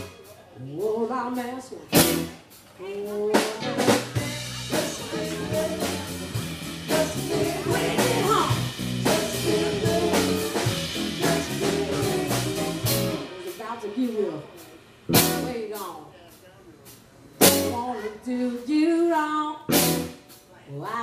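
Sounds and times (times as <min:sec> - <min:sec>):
live rock band playing: 0:00.0 - 0:16.0, 0:16.8 - 0:18.0, 0:19.7 - 0:20.5.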